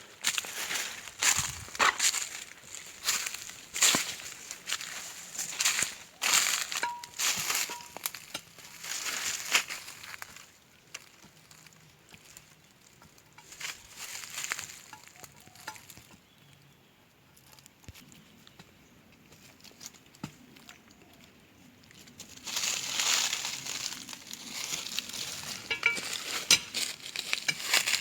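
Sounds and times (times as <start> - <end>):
crunching crackling rustle: 0.0 - 16.6, 17.3 - 28.0.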